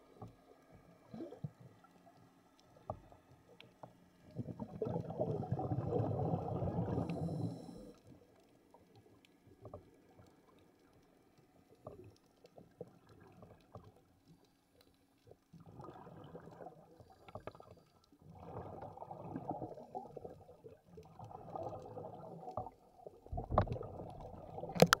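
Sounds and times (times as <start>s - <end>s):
muffled water gurgling and sloshing: 0.0s - 25.0s.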